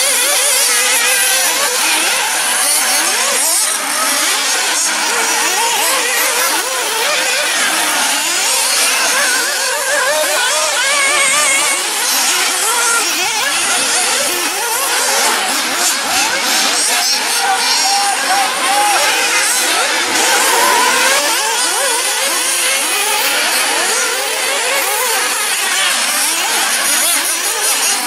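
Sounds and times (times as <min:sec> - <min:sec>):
rc buggy engines buzzing: 0:00.0 - 0:28.0.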